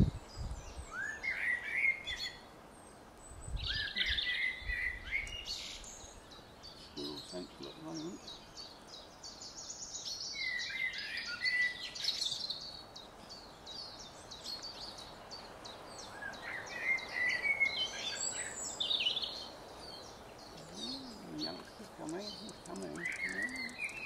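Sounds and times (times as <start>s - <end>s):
bird warbling song: 0.0s - 24.0s
songbirds chirping: 0.0s - 24.0s.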